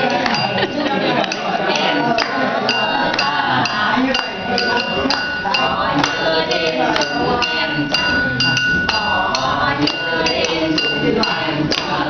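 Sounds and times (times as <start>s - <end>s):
glass tableware clinking: 0.0s - 12.0s
voices: 0.0s - 12.0s.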